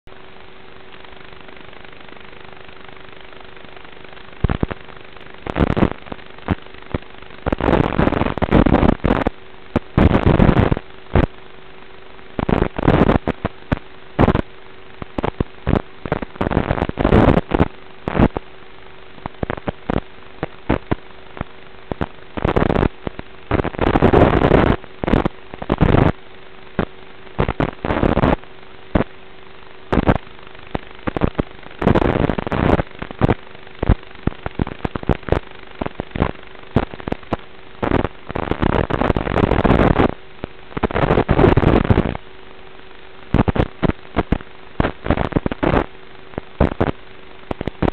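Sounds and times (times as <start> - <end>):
crackling noise bursts: 0.1 - 47.9
static hiss: 0.1 - 47.9.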